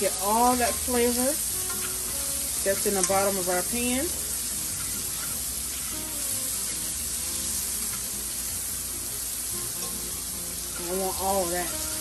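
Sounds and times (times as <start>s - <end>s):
shrimp sizzling in a frying pan: 0.0s - 12.0s
soft background music: 0.0s - 12.0s.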